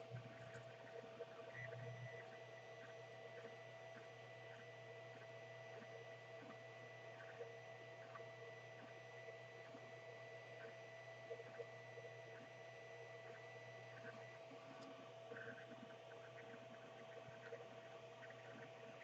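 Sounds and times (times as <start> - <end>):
small ticks: 0.1 - 19.0.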